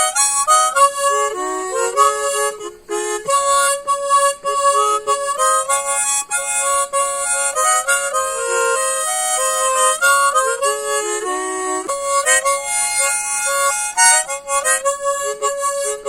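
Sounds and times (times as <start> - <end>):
solo instrumental melody with chords: 0.0 - 16.0.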